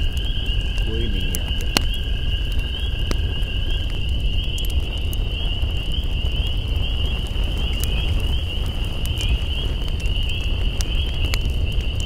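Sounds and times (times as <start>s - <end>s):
low rumble: 0.0s - 11.7s
campfire crackling and popping: 0.0s - 12.0s
night insects trilling: 0.0s - 12.0s.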